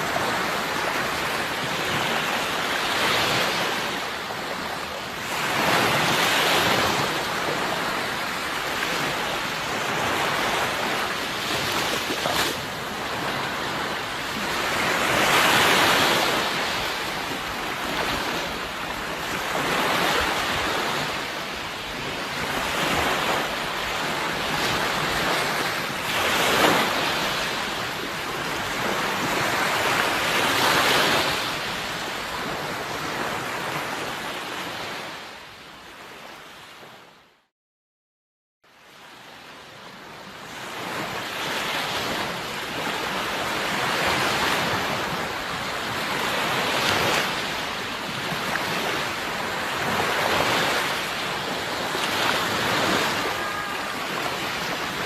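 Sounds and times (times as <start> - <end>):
sea waves surf: 0.0 - 37.2, 38.8 - 55.0.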